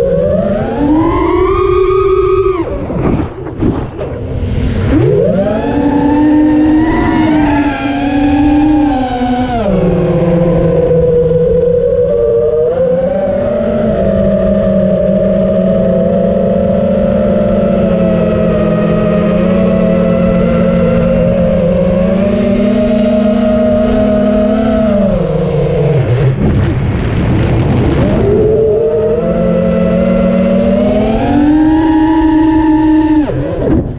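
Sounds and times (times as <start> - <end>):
quadcopter motors whining: 0.0 - 26.4, 27.9 - 33.9
wind noise rushing: 0.0 - 33.9.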